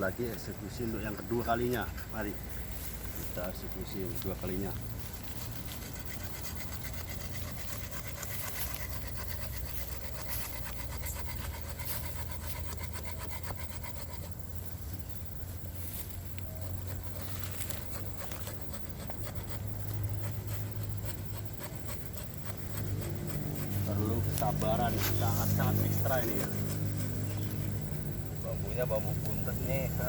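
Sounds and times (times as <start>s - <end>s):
hand saw rasping through bamboo: 3.3s - 14.9s, 15.8s - 30.0s.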